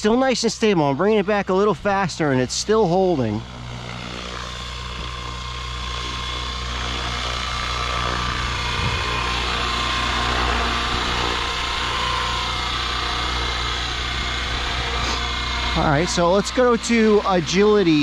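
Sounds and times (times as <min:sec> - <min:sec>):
electric helicopter motor whine: 0:00.0 - 0:18.0
rotors droning: 0:00.0 - 0:18.0.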